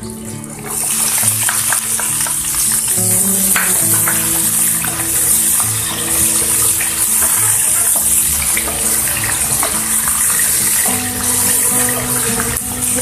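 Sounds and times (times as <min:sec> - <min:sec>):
garlic sizzling in hot oil: 0:00.5 - 0:13.0.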